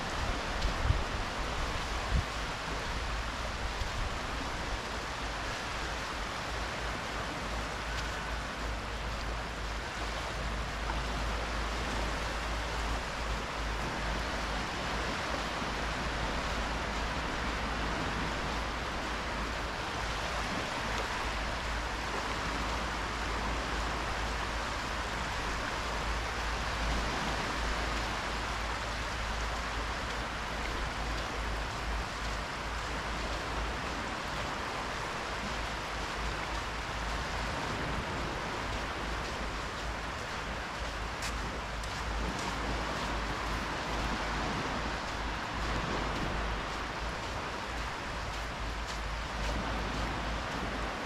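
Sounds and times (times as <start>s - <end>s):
gentle surf washing in: 0.0s - 51.0s.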